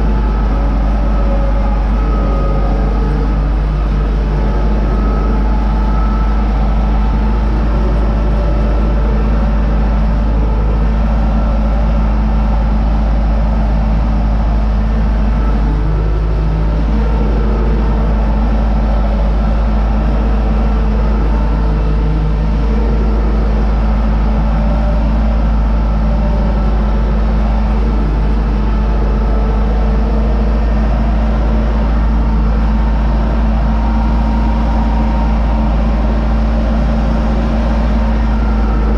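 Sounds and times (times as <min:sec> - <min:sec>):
tractor diesel engine rumbling: 0:00.0 - 0:38.9.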